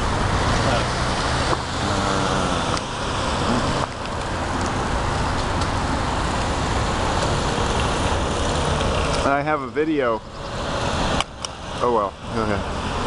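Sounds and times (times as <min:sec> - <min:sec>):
steady traffic noise: 0:00.0 - 0:13.0.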